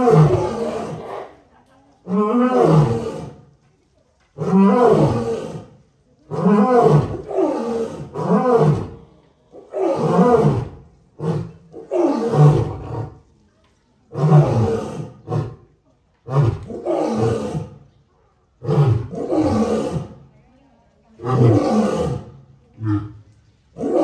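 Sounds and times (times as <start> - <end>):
lion roaring: 0.0 - 1.4, 2.0 - 3.5, 4.4 - 13.2, 14.1 - 15.6, 16.2 - 17.8, 18.6 - 20.3, 21.2 - 24.0.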